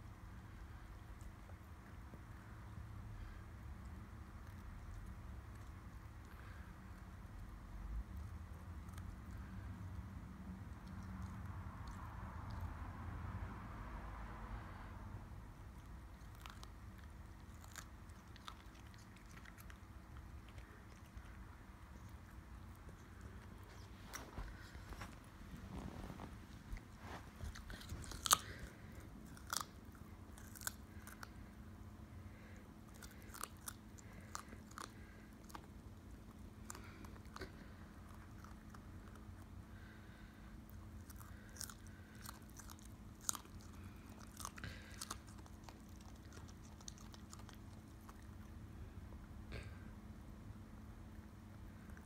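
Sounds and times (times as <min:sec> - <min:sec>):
puppy crunching carrot: 0:00.4 - 0:13.7, 0:15.5 - 0:48.9.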